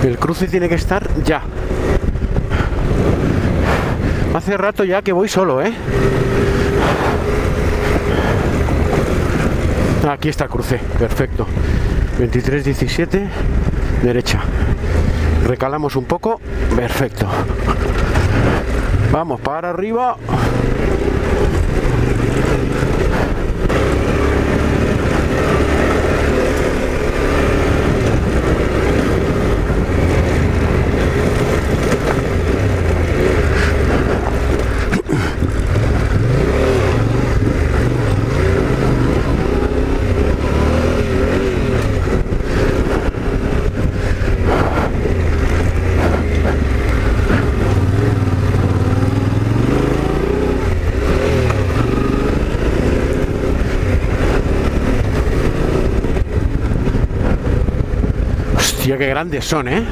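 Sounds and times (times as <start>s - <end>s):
motorcycle engine revving: 0.0s - 4.3s, 5.4s - 59.9s.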